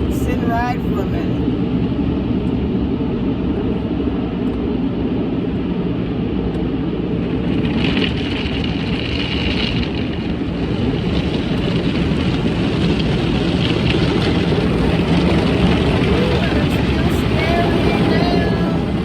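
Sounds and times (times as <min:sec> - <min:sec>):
car wash water rushing: 0:00.0 - 0:19.0.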